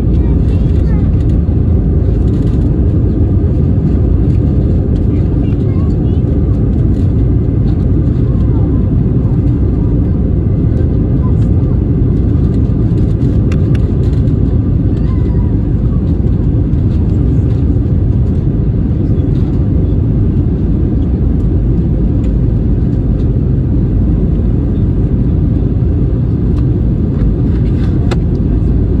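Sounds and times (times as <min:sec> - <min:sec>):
aircraft engines rumbling: 0:00.0 - 0:29.0.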